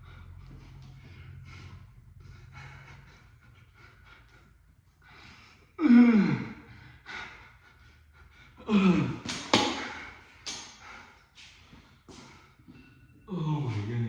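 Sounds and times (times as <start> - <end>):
hard breaths: 0.0 - 14.0.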